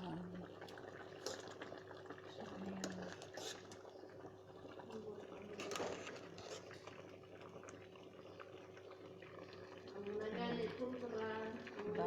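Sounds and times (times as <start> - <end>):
porridge bubbling on the boil: 0.0 - 12.0.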